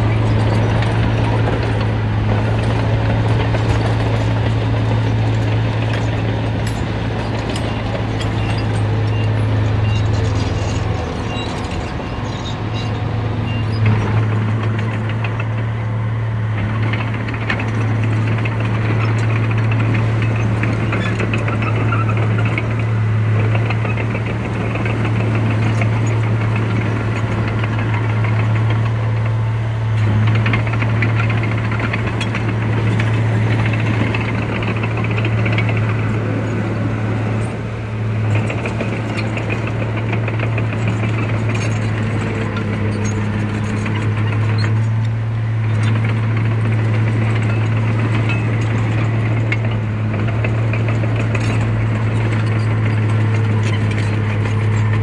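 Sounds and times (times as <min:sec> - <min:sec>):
heavy diesel engine under load: 0:00.0 - 0:55.0
machinery clatter: 0:00.0 - 0:55.0.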